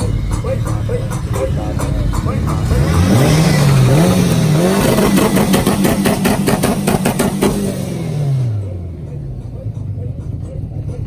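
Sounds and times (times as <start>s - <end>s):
car engine revving: 0.0s - 11.0s
exhaust crackling and popping: 0.0s - 11.0s.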